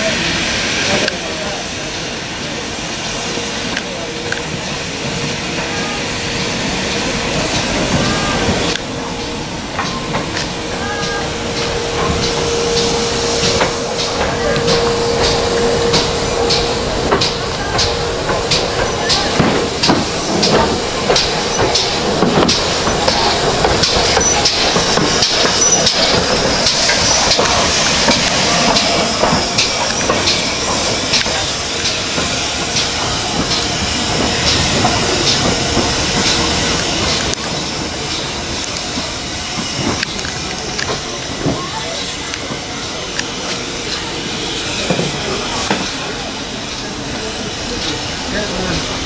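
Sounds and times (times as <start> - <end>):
steam hissing: 0.0 - 49.0
steam locomotive exhaust beats: 0.0 - 49.0.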